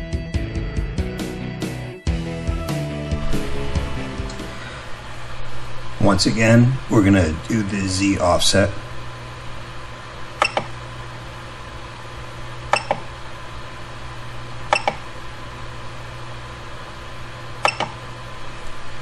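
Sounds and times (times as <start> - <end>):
steady low hum: 2.2 - 19.0.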